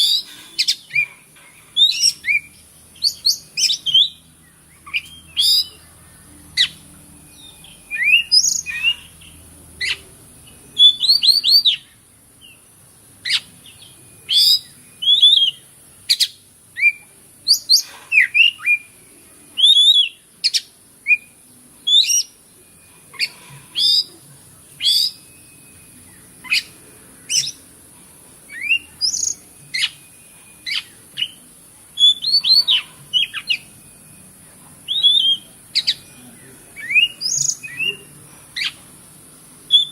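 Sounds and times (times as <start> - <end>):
steady high hiss: 0.0 - 39.9
bird singing whistled notes: 1.7 - 24.2, 24.8 - 27.7, 28.5 - 38.9, 39.6 - 39.9.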